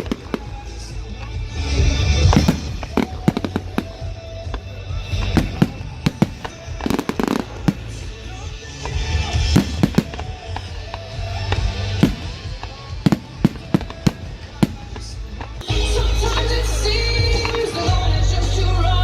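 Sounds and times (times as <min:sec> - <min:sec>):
fireworks bangs and crackles: 0:00.0 - 0:15.6
pop music: 0:00.0 - 0:19.0.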